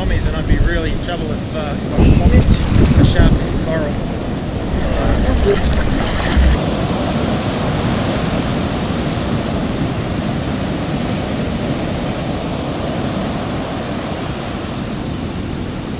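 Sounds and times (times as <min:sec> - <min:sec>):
surf breaking on a reef: 0:01.3 - 0:14.8.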